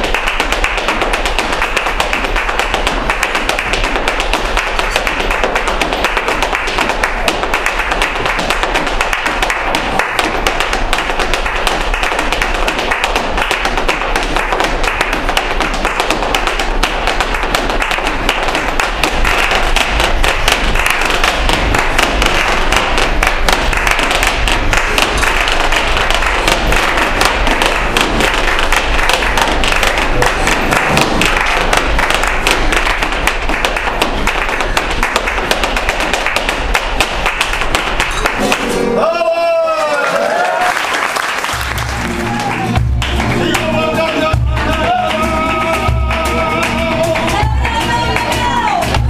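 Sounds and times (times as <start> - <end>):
dance shoes tapping fast footwork: 0.0 - 38.7, 41.6 - 49.0.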